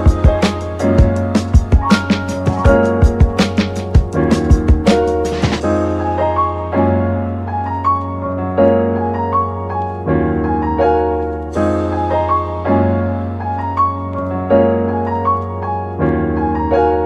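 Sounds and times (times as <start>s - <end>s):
keyboard chords: 0.0s - 17.0s
keyboard melody notes: 0.0s - 17.0s.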